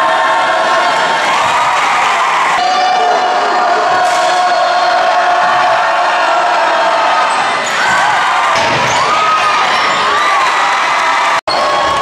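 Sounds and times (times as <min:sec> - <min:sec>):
crowd cheering and shouting: 0:00.0 - 0:12.0.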